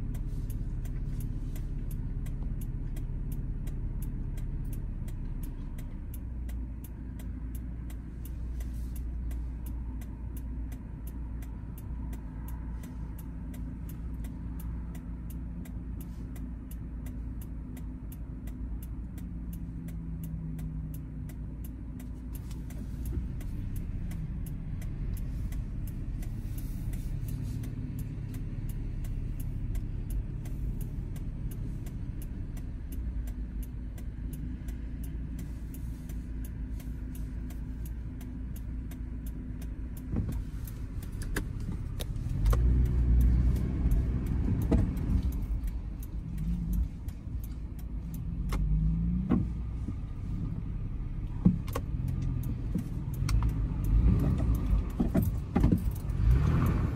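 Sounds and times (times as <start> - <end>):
truck engine rumble from inside cab: 0.0 - 56.9.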